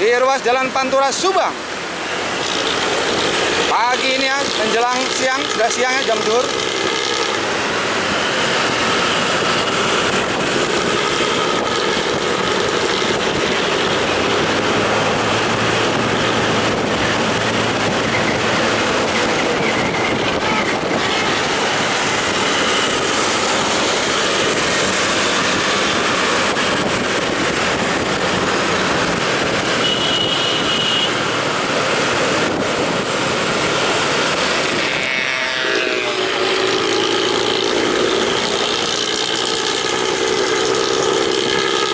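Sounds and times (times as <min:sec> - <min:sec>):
bus engine with rasping exhaust: 0:01.2 - 0:41.9.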